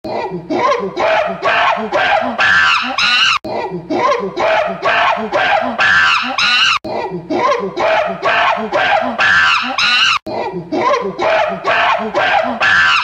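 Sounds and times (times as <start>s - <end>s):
rapid voice-like yelps: 0.1s - 13.0s.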